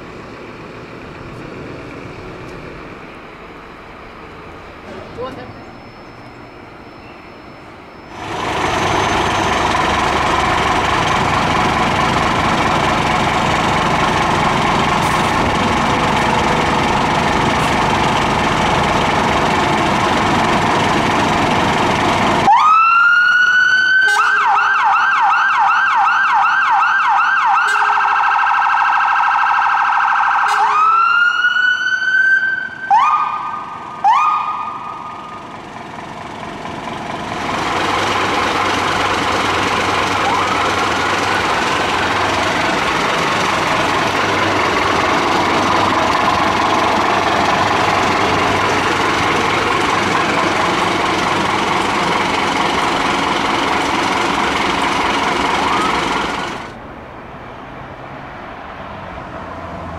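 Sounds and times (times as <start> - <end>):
fire engine siren: 5.2 - 35.7, 37.9 - 56.8.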